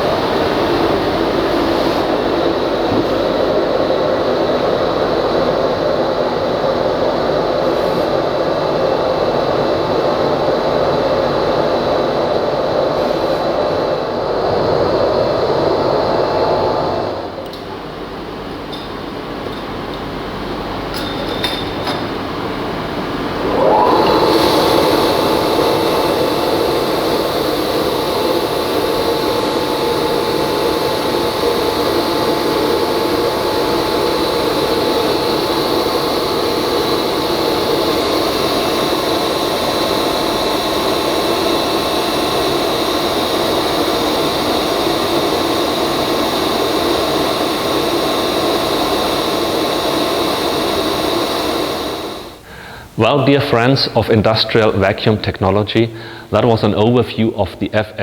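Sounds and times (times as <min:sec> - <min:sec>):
vacuum cleaner running: 0:00.0 - 0:53.4.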